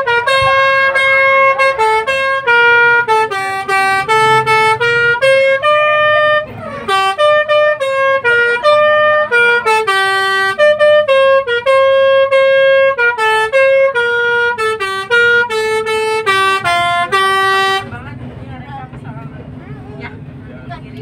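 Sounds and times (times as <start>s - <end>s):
multi-tone air horn melody: 0.0s - 18.0s.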